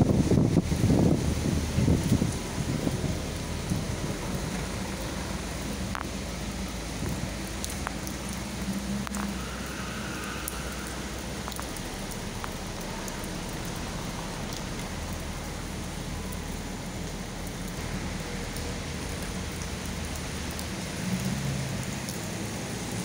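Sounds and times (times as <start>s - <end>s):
rain pattering on paving: 0.0s - 23.0s
water dripping: 0.0s - 23.0s.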